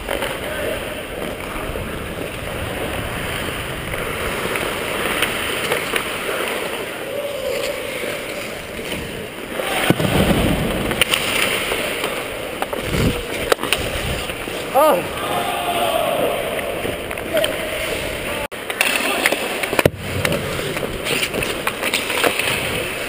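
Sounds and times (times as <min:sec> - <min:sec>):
skate blades scraping on ice: 0:00.0 - 0:15.2, 0:17.2 - 0:23.0.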